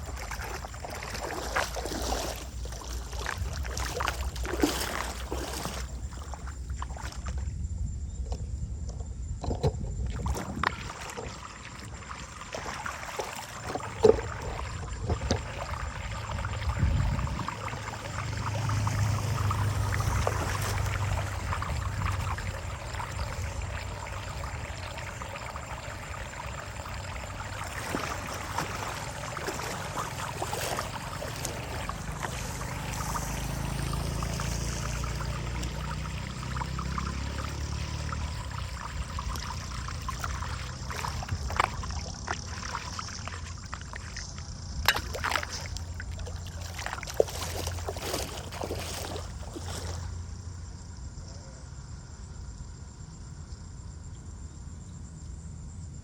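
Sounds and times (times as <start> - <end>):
water sloshing and splashing: 0.0 - 50.5.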